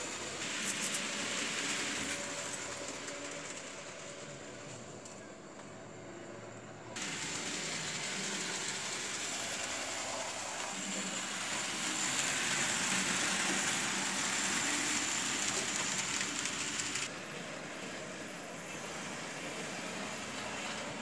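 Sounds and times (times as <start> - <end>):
model train wheels rolling on rails: 0.0 - 21.0.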